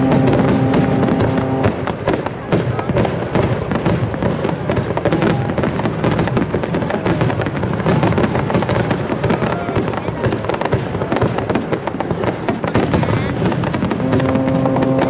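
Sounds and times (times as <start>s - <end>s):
fireworks bursting: 0.0s - 15.0s
sharp pops and crackles: 0.0s - 15.0s.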